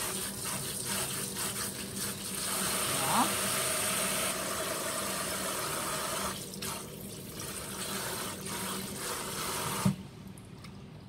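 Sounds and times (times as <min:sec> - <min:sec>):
tap water running into pot: 0:00.0 - 0:10.0.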